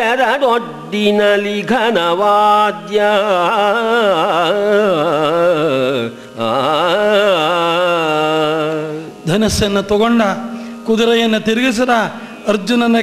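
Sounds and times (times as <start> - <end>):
man singing ornamented phrases: 0.0 - 13.0.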